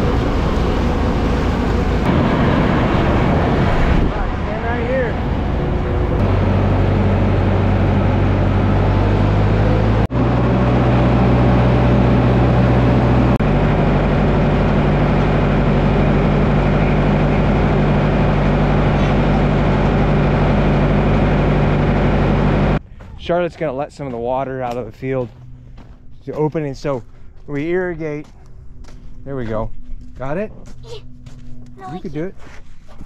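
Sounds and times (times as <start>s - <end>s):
tractor engine running: 0.0s - 30.5s.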